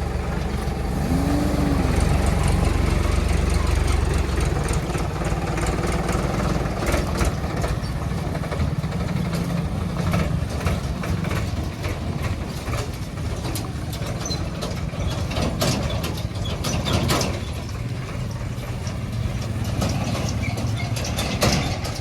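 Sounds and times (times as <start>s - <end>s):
train rumbling: 0.0s - 22.0s
train wheels clacking: 2.3s - 22.0s.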